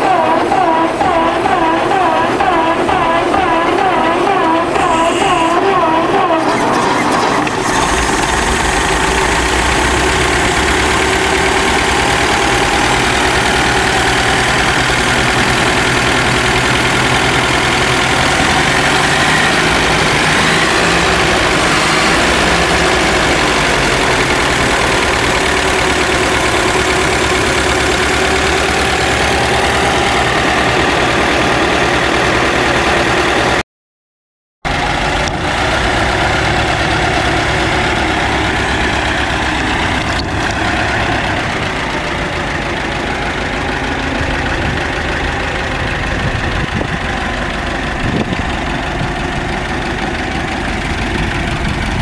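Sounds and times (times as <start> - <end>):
car engine idling: 0.0 - 33.6, 34.7 - 52.0.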